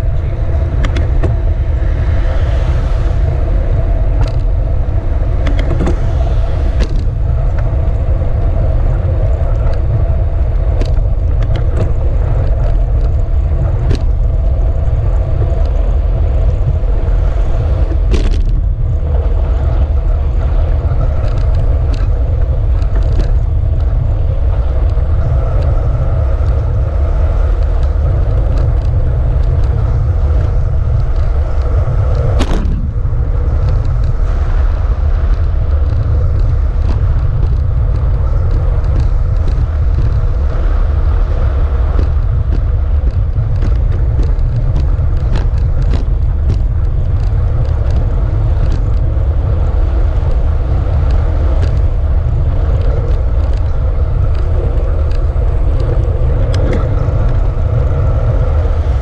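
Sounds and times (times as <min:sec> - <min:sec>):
road noise: 0:00.0 - 0:59.0
wind rumble on microphone: 0:00.0 - 0:59.0.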